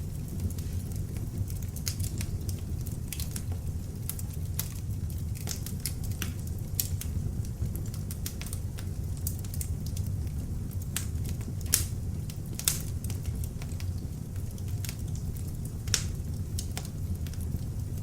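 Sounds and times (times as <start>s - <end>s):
fire rumbling: 0.0s - 18.0s
wood crackling and popping: 0.0s - 18.0s.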